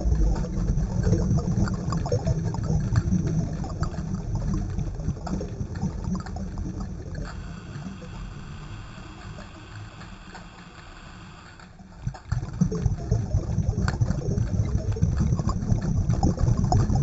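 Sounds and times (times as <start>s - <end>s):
faint crackles: 0.0s - 17.0s
underwater rumble: 0.0s - 17.0s.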